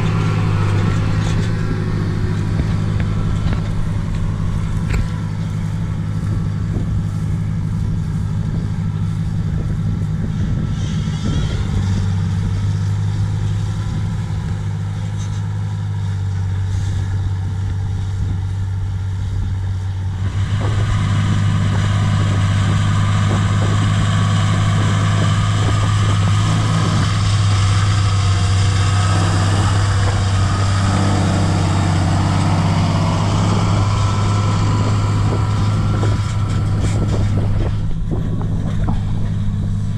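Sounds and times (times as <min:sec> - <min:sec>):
discs scraping through soil: 0:00.0 - 0:17.1, 0:20.3 - 0:39.9
tractor diesel engine running: 0:00.0 - 0:39.9.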